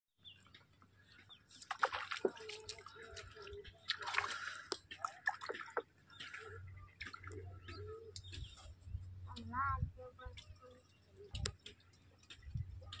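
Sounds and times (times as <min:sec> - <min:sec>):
water splashing and sloshing: 0:00.4 - 0:13.0.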